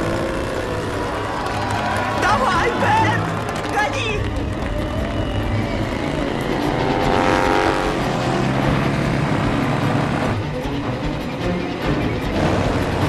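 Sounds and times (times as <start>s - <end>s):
motorcycle engine accelerating: 0.0s - 2.2s, 3.2s - 13.0s.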